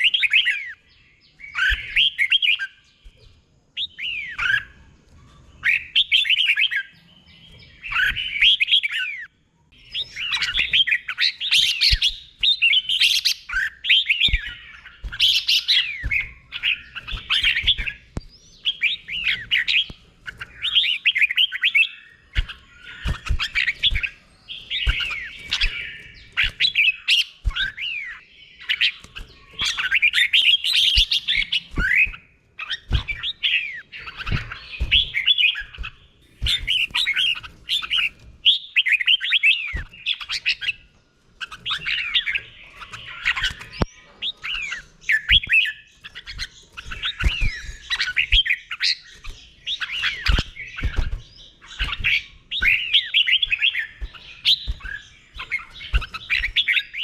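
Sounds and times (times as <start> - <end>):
bird singing warbled phrases: 0.0 - 57.0.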